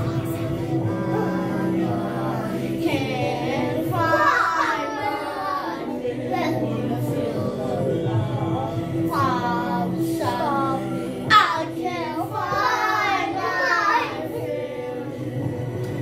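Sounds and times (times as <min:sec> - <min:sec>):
girl singing: 0:00.0 - 0:07.9, 0:09.1 - 0:14.6
backing music track: 0:00.0 - 0:16.0.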